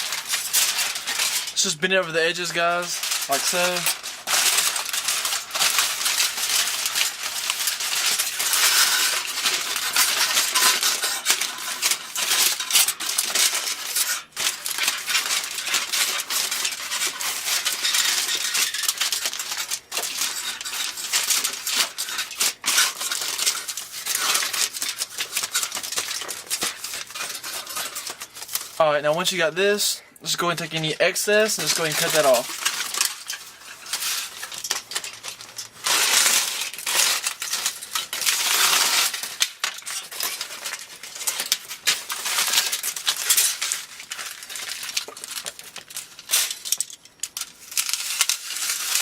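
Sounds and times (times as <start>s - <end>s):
aluminum foil crinkling: 0.0s - 49.0s.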